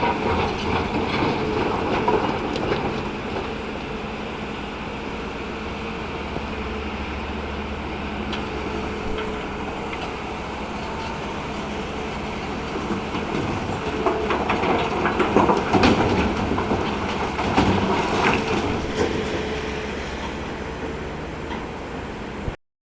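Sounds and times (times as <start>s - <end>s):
excavator diesel engine running: 0.0s - 22.6s.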